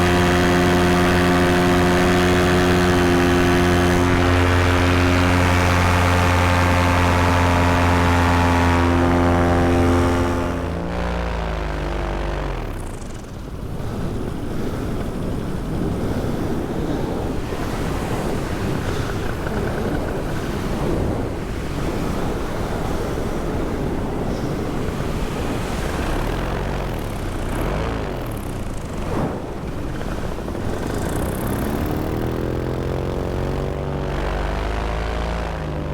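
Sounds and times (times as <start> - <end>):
paramotor engine and propeller: 0.0 - 35.9.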